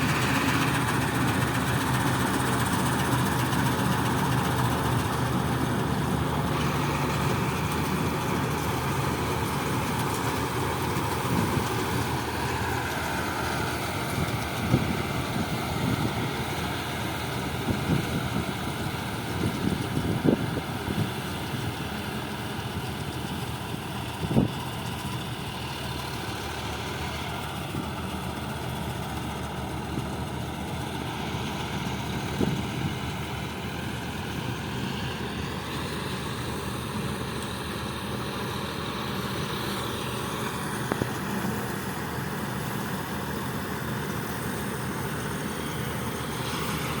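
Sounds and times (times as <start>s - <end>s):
diesel tractor engine running: 0.0s - 47.0s.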